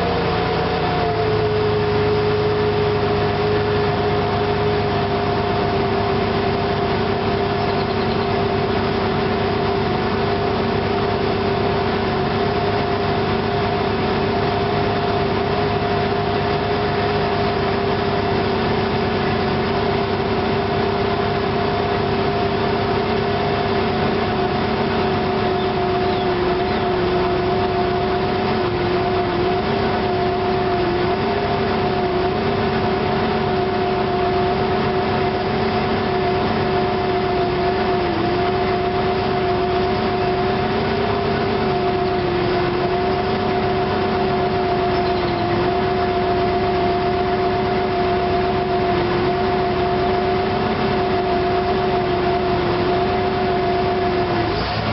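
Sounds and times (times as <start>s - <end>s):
car engine idling roughly: 0.0s - 54.9s.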